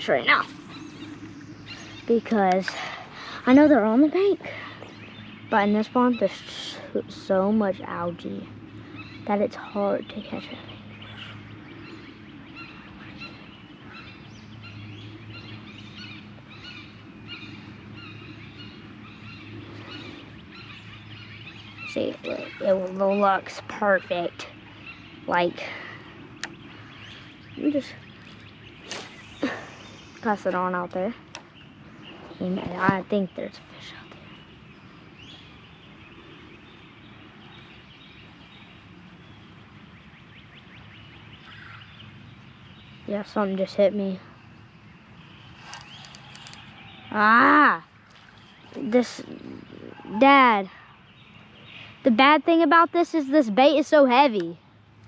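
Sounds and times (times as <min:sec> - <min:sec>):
wind rumble on microphone: 0:00.0 - 0:52.2
low hum: 0:00.0 - 0:52.9
bird trill: 0:00.0 - 0:54.2
small birds chirping: 0:00.0 - 0:55.0.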